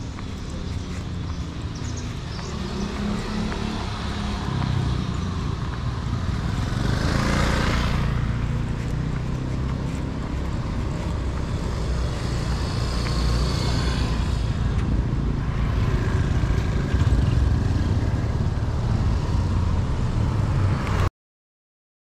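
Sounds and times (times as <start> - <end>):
vehicle engines running: 0.0 - 21.0.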